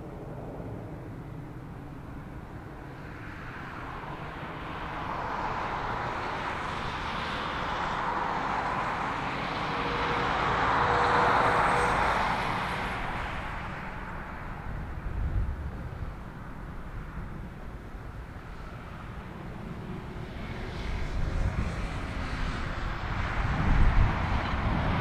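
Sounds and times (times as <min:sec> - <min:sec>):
distant jet engines roaring: 0:00.0 - 0:25.0.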